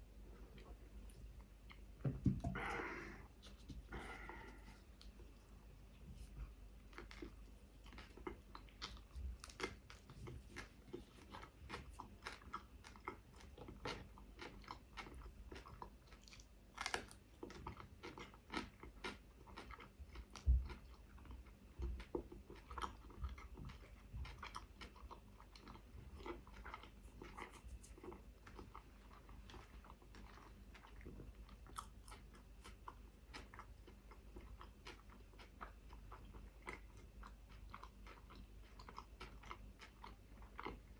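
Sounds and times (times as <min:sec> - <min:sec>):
biting and chewing food: 0:00.3 - 0:40.9.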